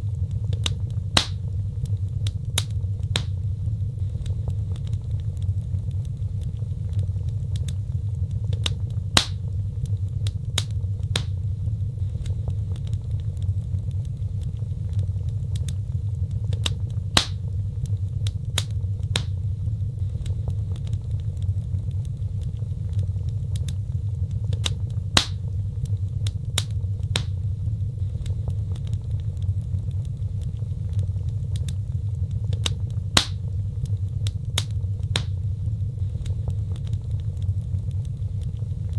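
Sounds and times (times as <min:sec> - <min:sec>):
steady low rumble: 0:00.0 - 0:38.9
wood fire crackling: 0:00.0 - 0:38.9.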